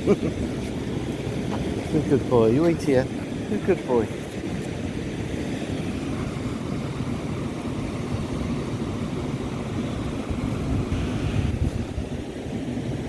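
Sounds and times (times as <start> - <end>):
waves washing on sandy beach: 0.0 - 13.0
wind rumbling on microphone: 0.0 - 13.0.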